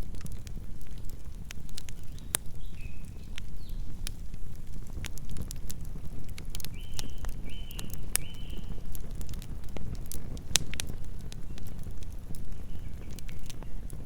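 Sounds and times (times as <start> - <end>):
burning wood rumble: 0.0 - 14.0
campfire crackling and popping: 0.0 - 14.0.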